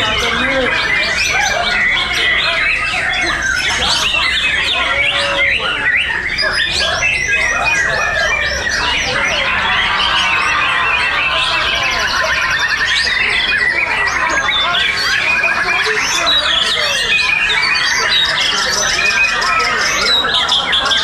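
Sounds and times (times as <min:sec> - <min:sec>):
birds singing in chorus: 0:00.0 - 0:21.0.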